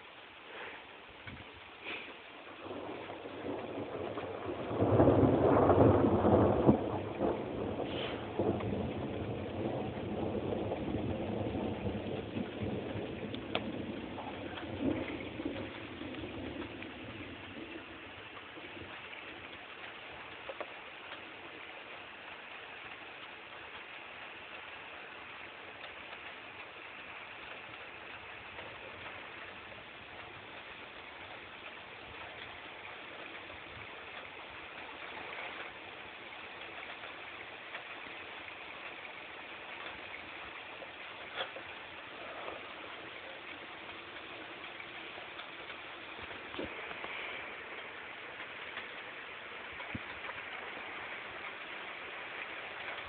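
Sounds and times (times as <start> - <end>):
steady rain falling: 0.0 - 53.0
thunder rumble: 1.3 - 53.0.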